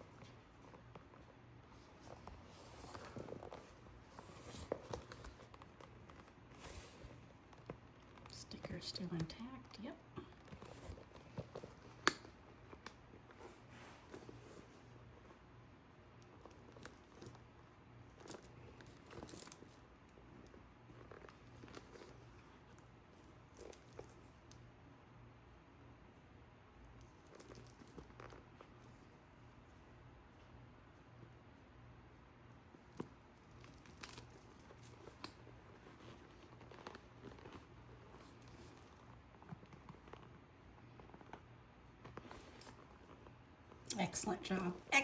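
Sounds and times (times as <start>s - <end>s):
handbag being handled: 0.0s - 24.6s, 26.8s - 29.4s, 32.7s - 45.0s.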